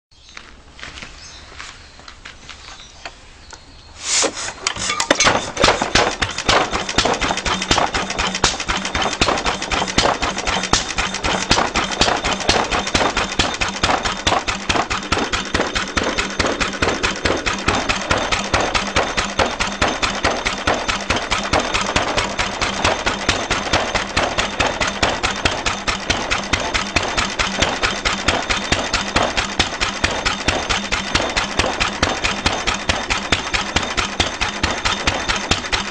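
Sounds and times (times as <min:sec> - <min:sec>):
stationary engine running: 0:04.2 - 0:35.9.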